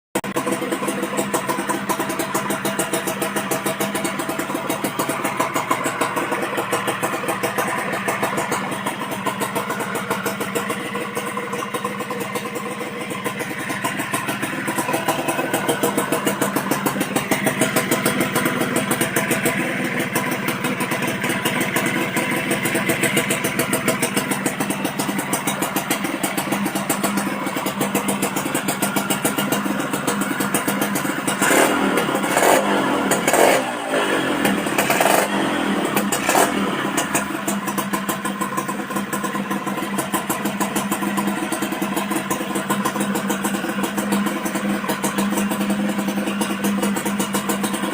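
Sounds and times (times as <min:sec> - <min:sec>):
two-stroke engine idling: 0:00.2 - 0:47.9.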